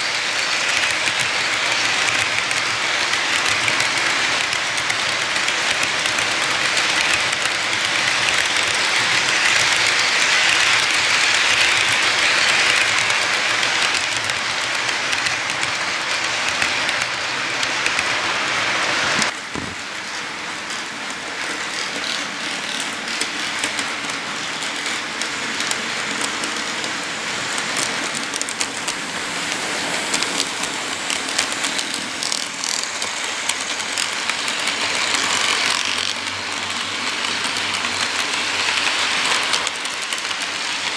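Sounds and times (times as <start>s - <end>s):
model train wheels hissing on track: 0.0s - 40.9s
wheels clicking over rails: 0.0s - 40.9s.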